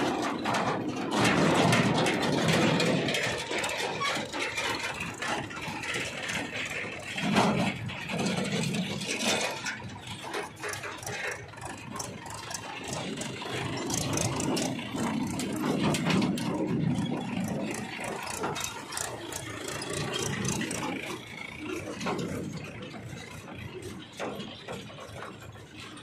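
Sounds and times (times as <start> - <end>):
tractor diesel engine: 0.0 - 26.0
trailer rattling and clanking: 0.0 - 26.0.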